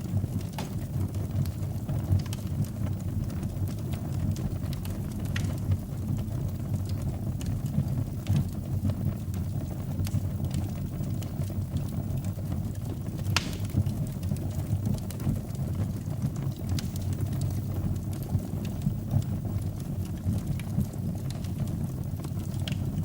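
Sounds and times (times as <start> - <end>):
fire crackles and pops: 0.0 - 23.0
wood fire burning: 0.0 - 23.0.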